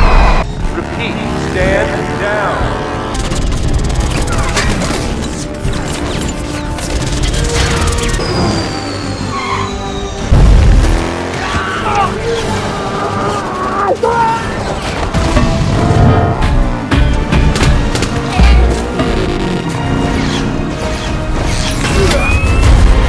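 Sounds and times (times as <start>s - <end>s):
vehicle engine: 0.0s - 5.7s, 6.3s - 21.5s
action film music: 0.0s - 23.0s.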